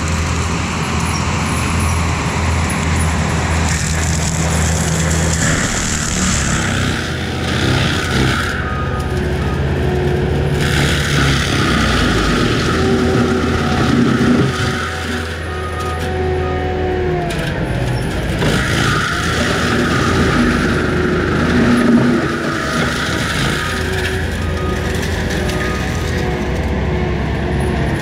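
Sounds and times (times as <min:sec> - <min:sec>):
mulcher drum grinding brush: 0:00.0 - 0:16.4, 0:18.0 - 0:26.6
diesel engine running under load: 0:00.0 - 0:28.0.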